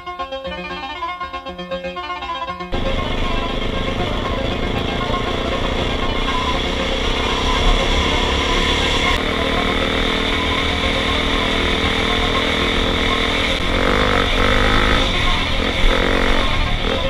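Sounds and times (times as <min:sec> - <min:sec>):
motorcycle engine revving: 0:02.7 - 0:17.0.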